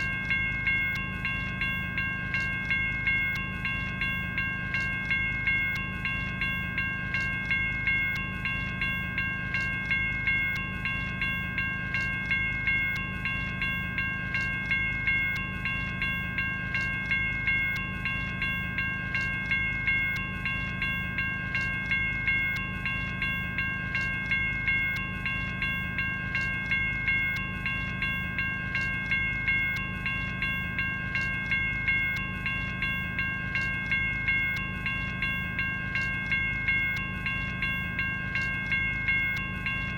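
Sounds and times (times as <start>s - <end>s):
electronic crossing bell ringing: 0.0s - 39.9s.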